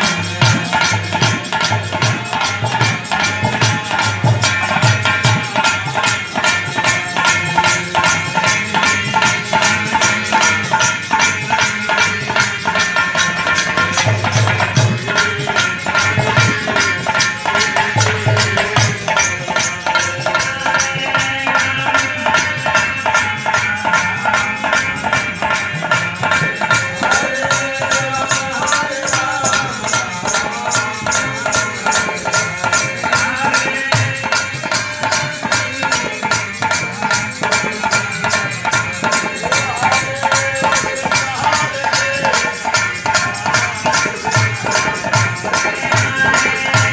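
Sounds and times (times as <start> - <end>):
jingling rattling percussion: 0.0 - 46.9.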